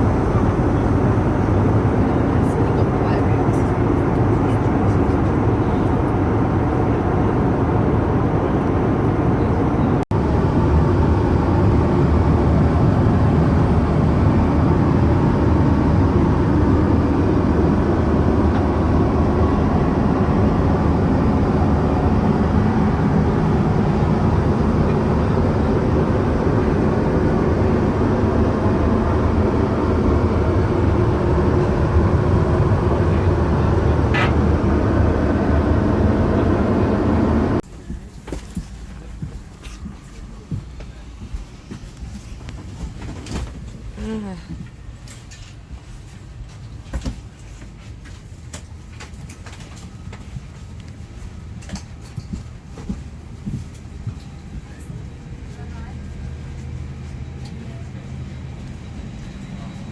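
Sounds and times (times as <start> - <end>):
airplane cabin engine and airflow noise: 0.0 - 59.9.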